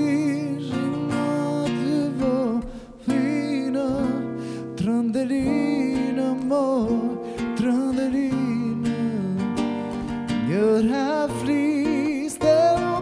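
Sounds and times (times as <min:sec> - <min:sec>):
acoustic guitar: 0:00.0 - 0:13.0
man singing folk song: 0:00.0 - 0:13.0.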